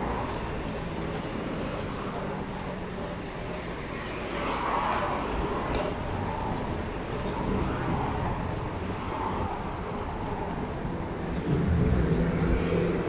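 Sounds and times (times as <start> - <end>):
city street traffic: 0.0 - 13.0
vehicle engine rumbling: 0.0 - 13.0.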